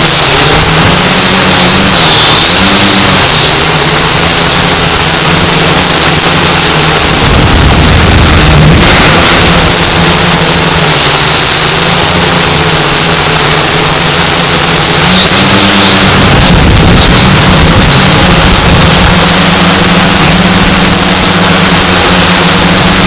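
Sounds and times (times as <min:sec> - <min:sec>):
drone propellers whining: 0:00.0 - 0:23.0.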